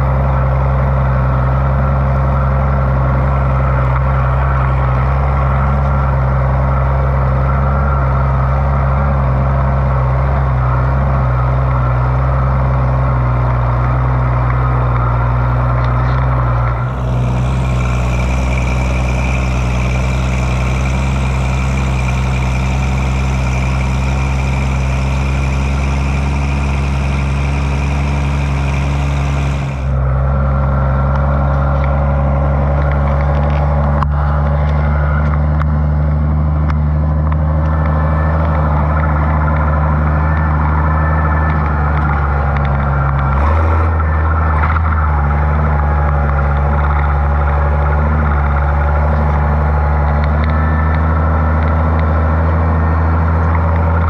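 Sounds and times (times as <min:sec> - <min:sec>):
high whine: 0:00.0 - 0:54.0
tractor engine running: 0:00.0 - 0:54.0.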